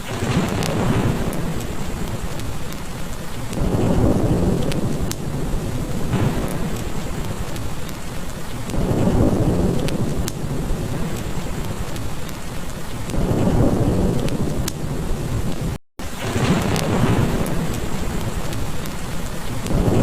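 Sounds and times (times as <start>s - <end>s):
heavy rain: 0.0s - 20.0s
log fire crackling: 0.0s - 20.0s
thunder rolling: 0.0s - 20.0s.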